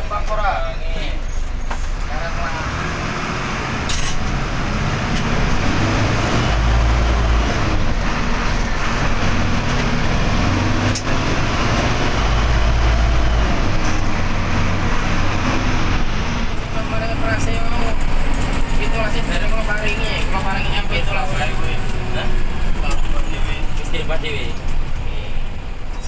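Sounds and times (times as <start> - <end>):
bus diesel engine roaring: 0.0 - 26.0.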